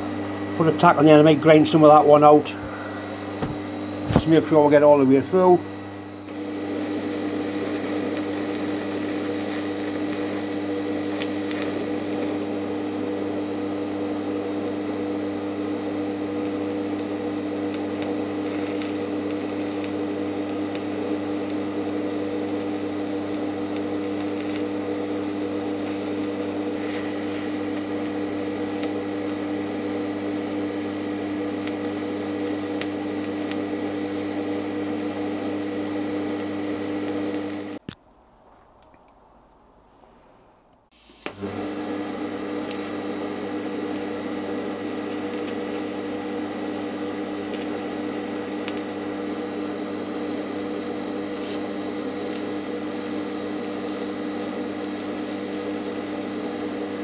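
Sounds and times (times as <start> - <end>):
welding arc humming and crackling: 0.0 - 38.0, 40.8 - 57.0.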